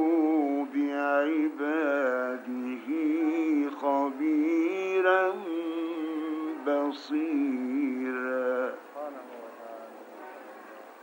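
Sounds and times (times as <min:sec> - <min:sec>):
man chanting melodically: 0:00.0 - 0:09.9.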